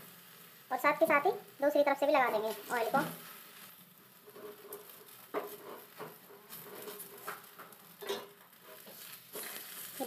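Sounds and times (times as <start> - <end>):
oil sizzling faintly: 0.0 - 10.0.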